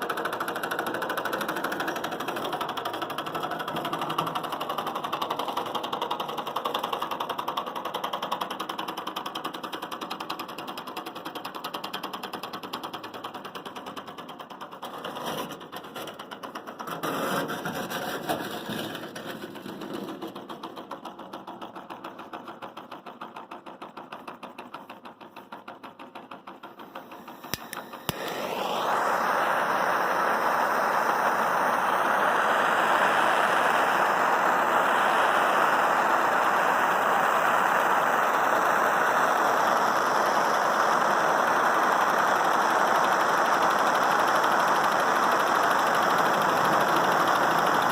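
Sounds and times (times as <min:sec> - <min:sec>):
engine mechanical clatter: 0:00.0 - 0:47.9.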